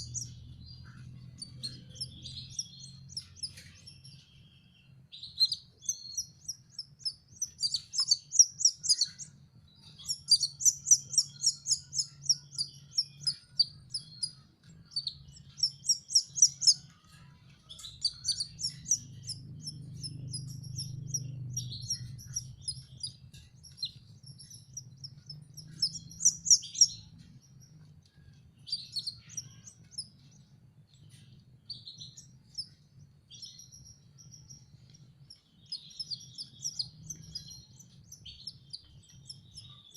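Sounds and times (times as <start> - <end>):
chicks chirping: 0.0 - 39.9
faint low hum: 0.0 - 39.9.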